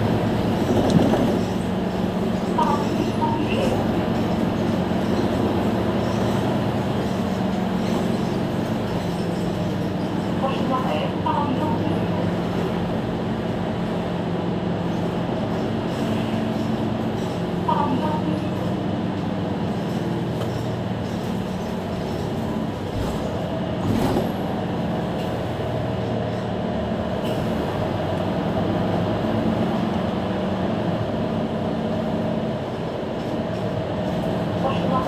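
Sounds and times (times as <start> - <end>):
bus engine idling: 0.0 - 35.0.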